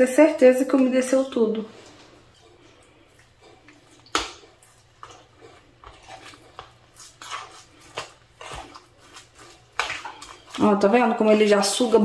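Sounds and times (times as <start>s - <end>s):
stirring damp couscous in bowl: 1.7s - 12.0s.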